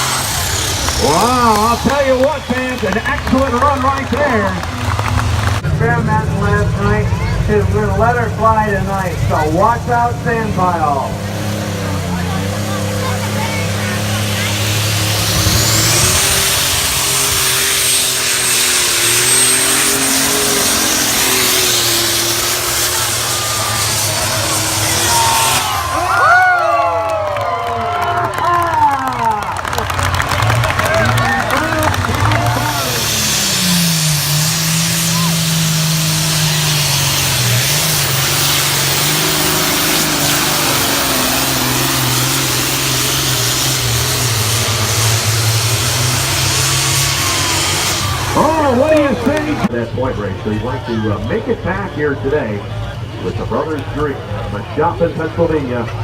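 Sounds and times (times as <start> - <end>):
engine running flat out: 0.0 - 56.0.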